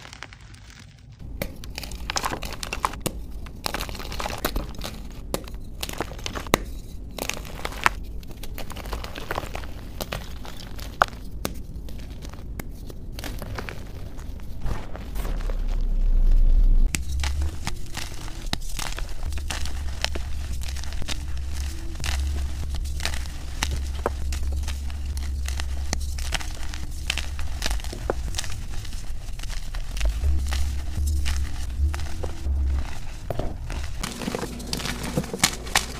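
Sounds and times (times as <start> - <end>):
chalk powder crumbling: 0.0 - 35.9
chalk snapping and crunching: 0.0 - 35.9
steady low hum: 1.2 - 35.9.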